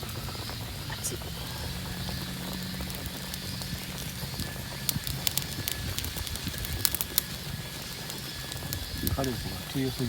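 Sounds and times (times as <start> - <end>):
fire crackling: 0.0 - 10.0
sharp pops of fire: 0.0 - 10.0.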